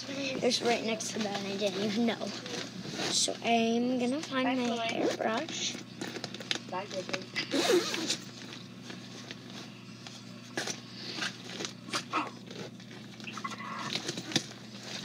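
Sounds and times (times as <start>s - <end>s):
rummaging through belongings: 0.0s - 15.0s
steady low hum: 0.0s - 15.0s.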